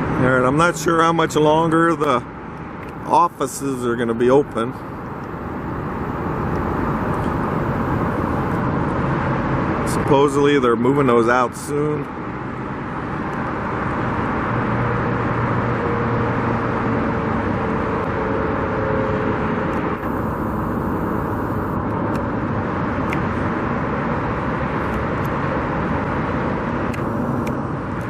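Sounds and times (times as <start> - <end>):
road traffic noise: 0.0 - 28.0
vehicle engine hum: 0.0 - 28.0.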